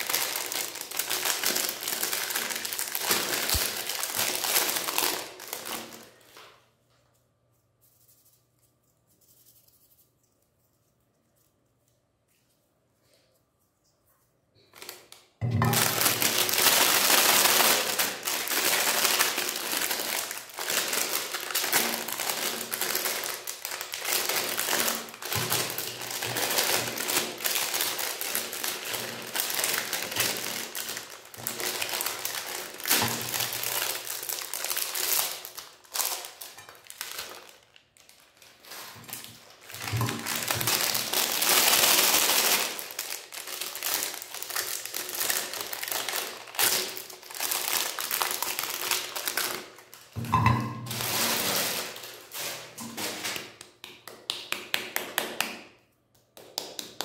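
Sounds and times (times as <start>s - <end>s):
foil wrappers crinkling and tearing: 0.0s - 6.6s, 14.6s - 53.8s.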